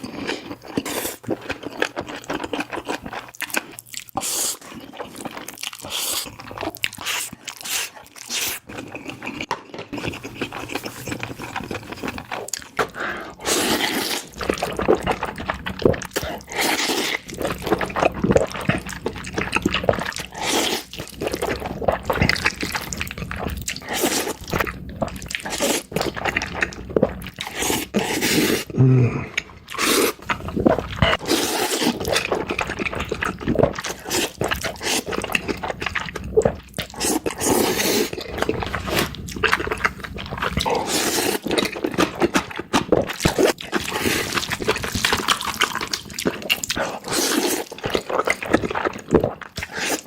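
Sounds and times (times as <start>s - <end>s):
person slurping and chewing noodles: 0.0s - 50.0s.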